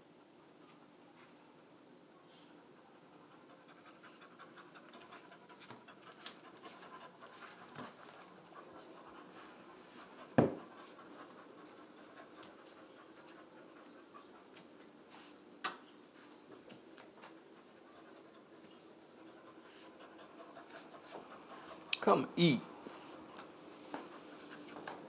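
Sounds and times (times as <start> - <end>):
dog panting quietly: 0.0 - 22.0, 22.6 - 25.0.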